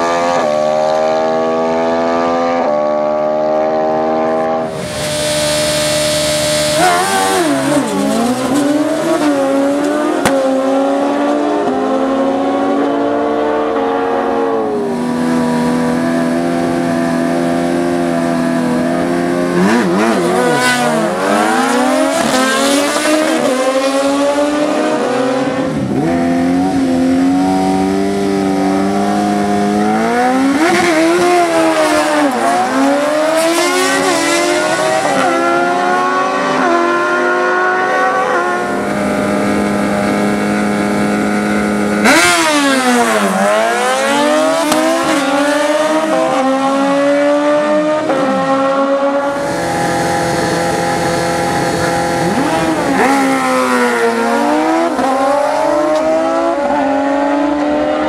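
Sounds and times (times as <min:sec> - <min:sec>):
racing engines revving: 0:00.0 - 0:58.0.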